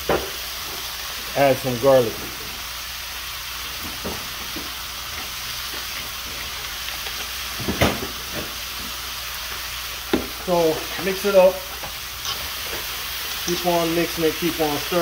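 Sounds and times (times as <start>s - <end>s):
vegetables sizzling in a skillet: 0.0s - 15.0s.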